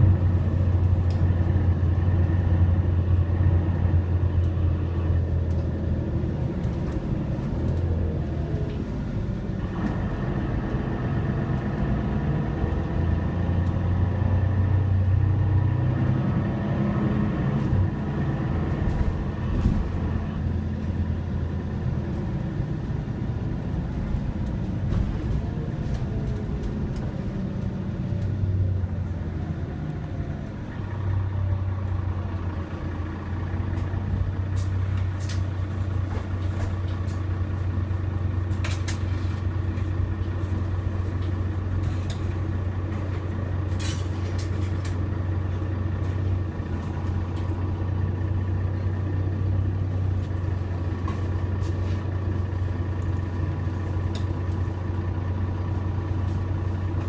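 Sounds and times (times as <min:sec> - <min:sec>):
bus engine drone: 0:00.0 - 0:57.0
road rumble: 0:00.0 - 0:57.0.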